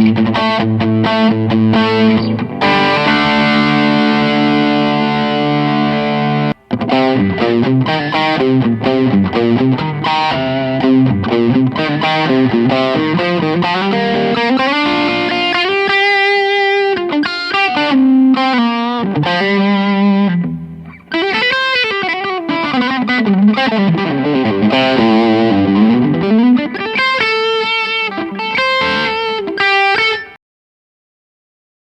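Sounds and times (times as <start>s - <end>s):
electric guitar lead with bends: 0.0s - 30.4s.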